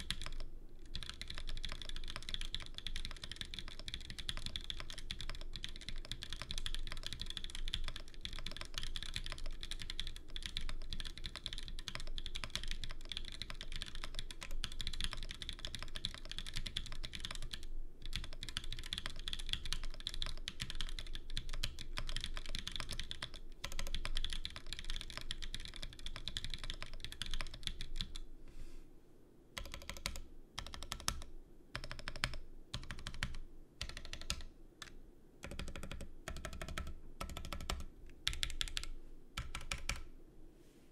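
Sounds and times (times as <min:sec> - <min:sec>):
mechanical keyboard typing: 0:00.0 - 0:28.2, 0:29.6 - 0:40.1.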